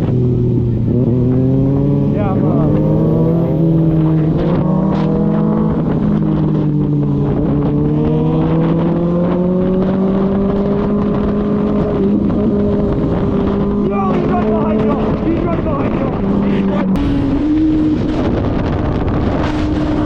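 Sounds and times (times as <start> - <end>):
motorcycle engine running: 0.0 - 20.0
wind rumble: 0.0 - 20.0.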